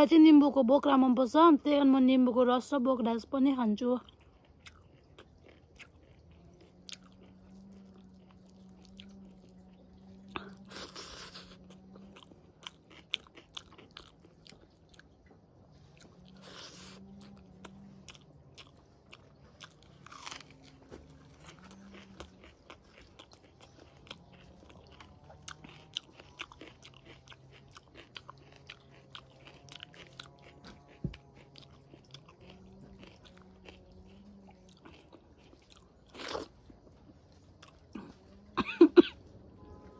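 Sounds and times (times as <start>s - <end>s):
person chewing food: 4.0s - 39.2s.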